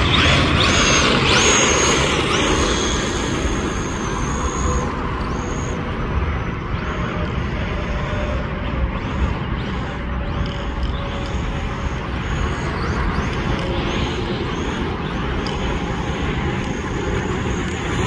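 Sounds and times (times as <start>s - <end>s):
rc car motor whining: 0.0s - 18.0s
steady rushing noise: 0.0s - 18.0s.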